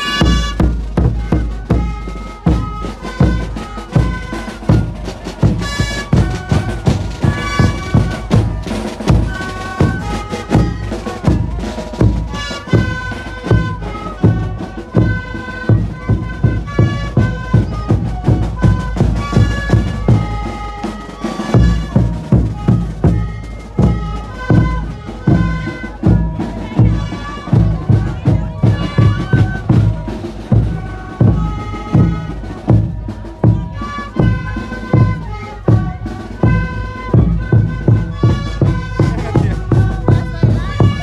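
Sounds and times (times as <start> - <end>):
bass drum beat: 0.0 - 20.5, 21.2 - 41.0
small drum beat: 0.0 - 41.0
wooden flutes playing melody: 0.0 - 41.0.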